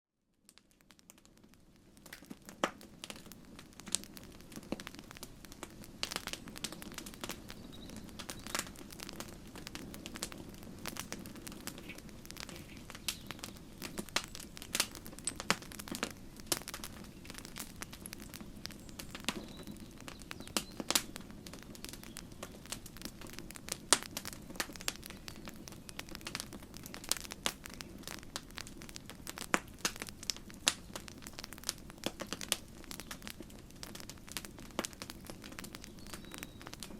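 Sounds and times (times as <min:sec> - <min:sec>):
wood crackling and popping: 0:00.3 - 0:36.9
low rush of flames: 0:00.6 - 0:36.9.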